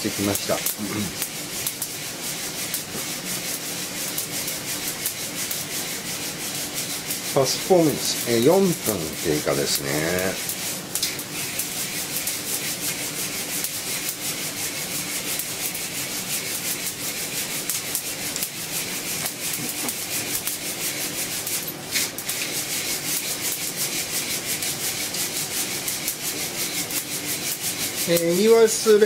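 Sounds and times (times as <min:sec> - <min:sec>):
coffee beans rattling in roaster: 0:00.0 - 0:29.0
fine crackling of beans: 0:00.0 - 0:29.0.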